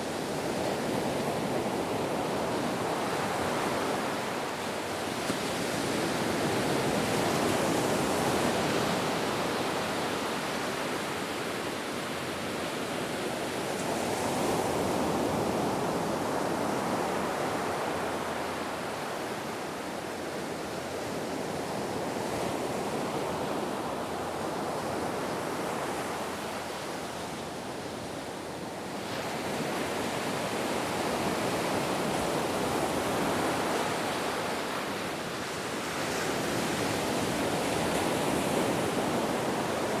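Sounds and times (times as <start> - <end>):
ocean waves washing ashore: 0.0 - 40.0.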